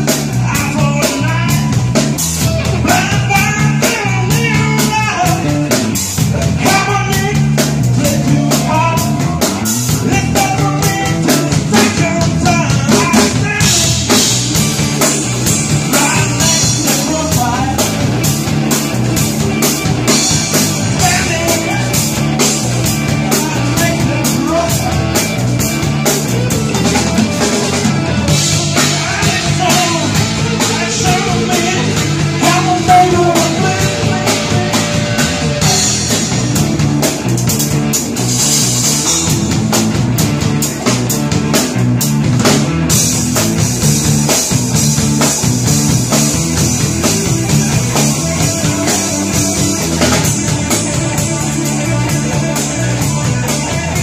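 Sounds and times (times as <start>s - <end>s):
electric bass: 0.0s - 54.0s
electric guitar: 0.0s - 54.0s
steady drum beat: 0.0s - 54.0s.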